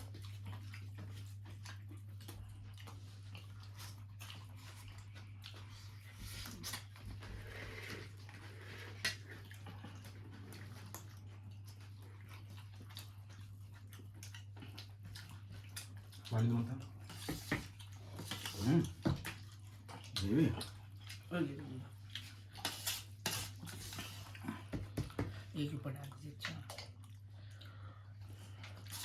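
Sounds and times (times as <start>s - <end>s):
soft chewing: 0.0s - 29.0s.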